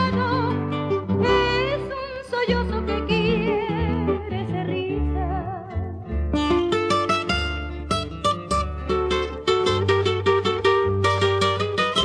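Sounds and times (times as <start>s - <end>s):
acoustic guitars picking melody: 0.0s - 12.0s.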